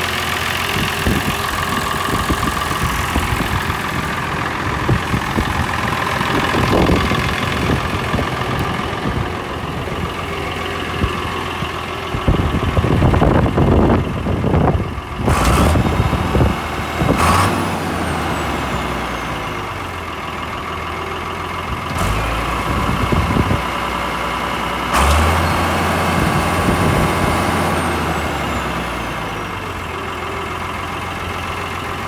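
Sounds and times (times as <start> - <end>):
tractor diesel engine revving: 0.0 - 32.0.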